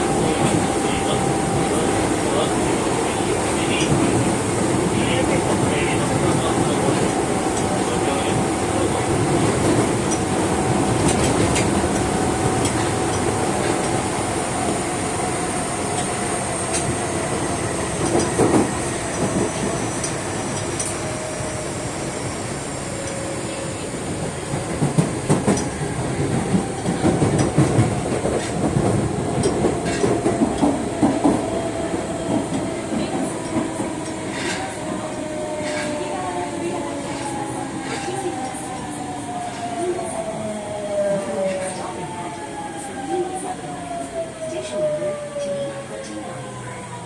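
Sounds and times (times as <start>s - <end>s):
subway inverter whine: 0.0s - 47.0s
train car rumble: 0.0s - 47.0s.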